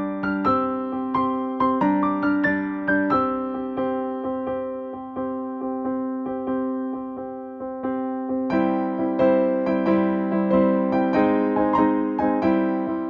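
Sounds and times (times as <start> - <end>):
gentle keyboard music: 0.0 - 13.0.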